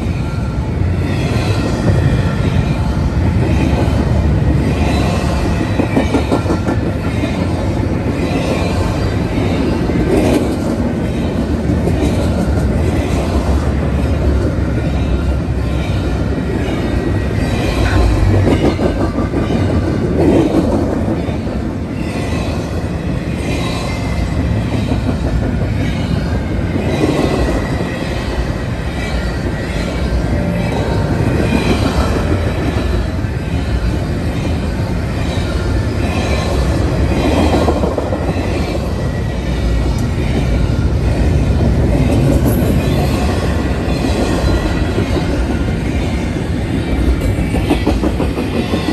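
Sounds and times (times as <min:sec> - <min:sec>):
train wheels rumbling on rails: 0:00.0 - 0:48.9
train clatter: 0:01.1 - 0:48.9.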